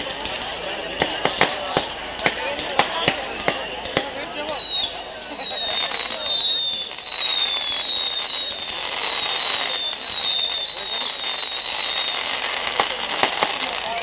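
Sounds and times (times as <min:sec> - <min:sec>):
firework burst crack: 0:00.0 - 0:14.0
whistling fireworks: 0:00.0 - 0:14.0.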